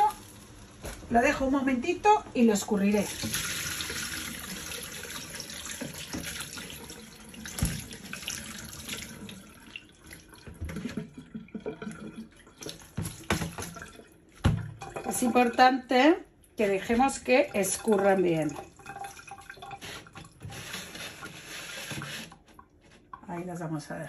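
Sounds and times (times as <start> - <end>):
rustling and dripping: 0.0 - 1.5, 2.8 - 24.0
water splashing into colander: 2.9 - 16.0, 16.6 - 24.0.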